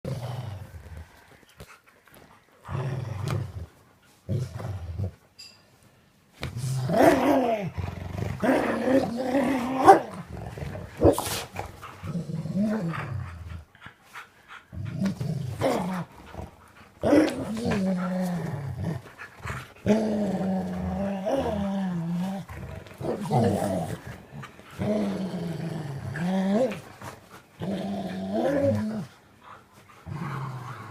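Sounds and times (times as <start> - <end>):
dog growling playfully: 0.1 - 1.2, 2.6 - 5.2, 6.5 - 13.8, 14.7 - 29.2, 30.0 - 30.9.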